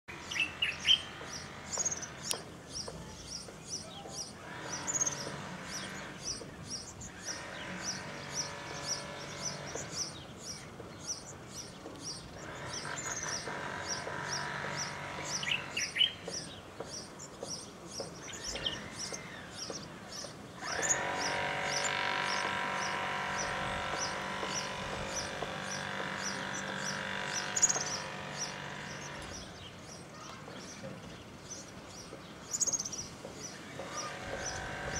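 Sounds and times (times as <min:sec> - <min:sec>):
songbird chirping: 0:00.1 - 0:34.9.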